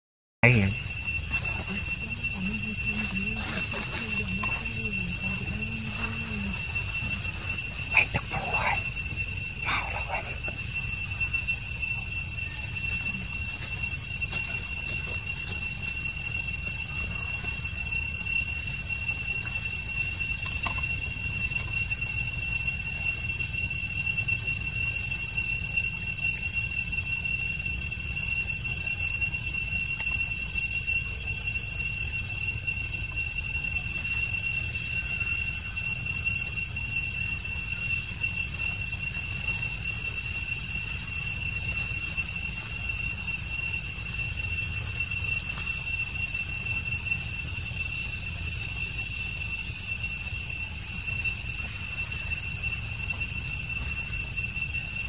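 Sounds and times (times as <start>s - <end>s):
insects whining: 0.4s - 55.0s.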